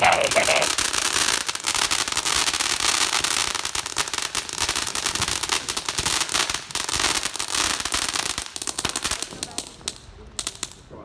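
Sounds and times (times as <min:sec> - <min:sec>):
firework crackling pops: 0:00.0 - 0:11.0
firework hiss: 0:00.0 - 0:11.0.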